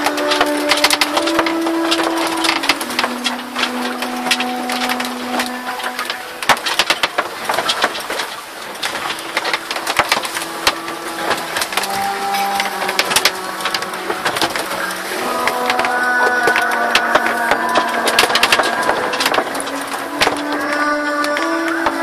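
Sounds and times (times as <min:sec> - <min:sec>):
boat cabin crackling and knocking: 0:00.0 - 0:22.0
drawn-out creaking tones: 0:00.0 - 0:22.0.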